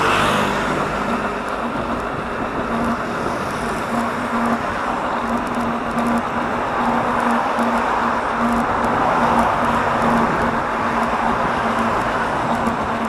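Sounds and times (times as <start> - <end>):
cars rushing on road: 0.0 - 13.0.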